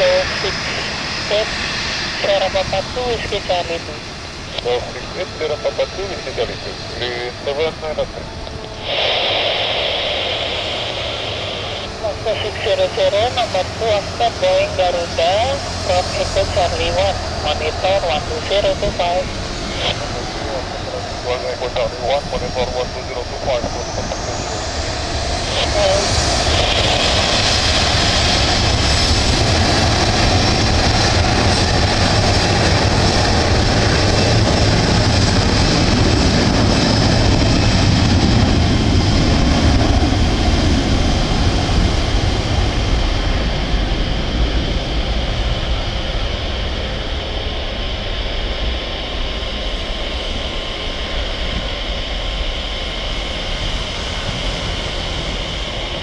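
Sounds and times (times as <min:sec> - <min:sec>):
jet engines rushing and whining: 0:00.0 - 0:56.0.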